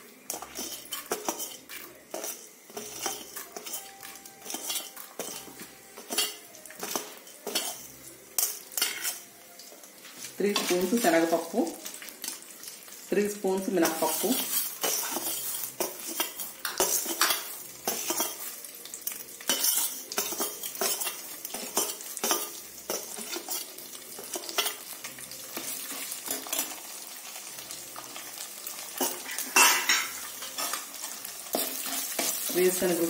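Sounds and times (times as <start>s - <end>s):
lentils sizzling in hot oil: 0.0s - 33.0s
steel spoon clinking and scraping: 0.3s - 9.3s, 13.8s - 26.9s, 27.9s - 32.6s.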